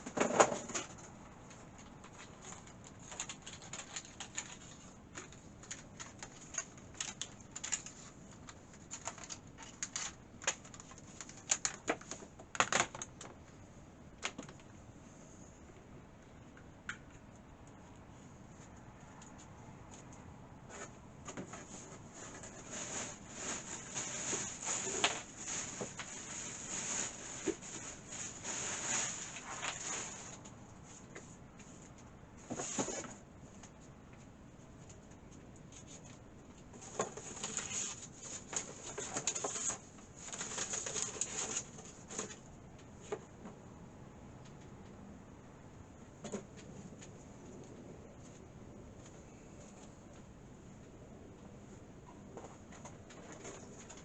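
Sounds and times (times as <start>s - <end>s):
rustling handling noise: 0.0s - 15.8s, 17.2s - 43.7s, 45.8s - 54.0s.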